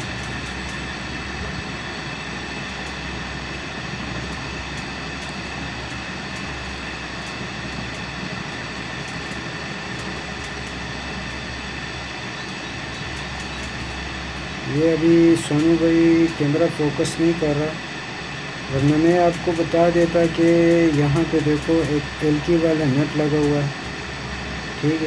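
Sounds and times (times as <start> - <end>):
thin high whine: 0.0 - 25.0.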